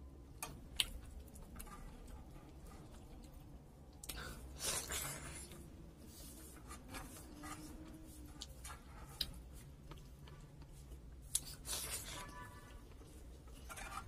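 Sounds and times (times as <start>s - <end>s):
soft chewing: 0.1s - 14.0s.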